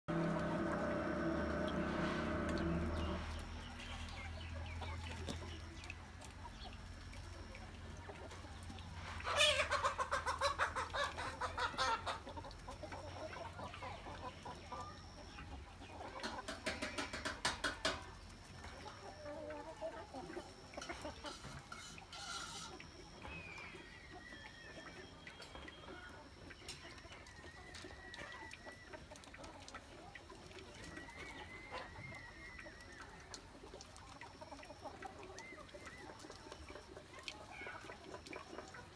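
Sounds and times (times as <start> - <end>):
chickens cackling: 0.1 - 5.6, 8.1 - 17.6, 18.4 - 38.9
chickens clucking: 0.1 - 38.9.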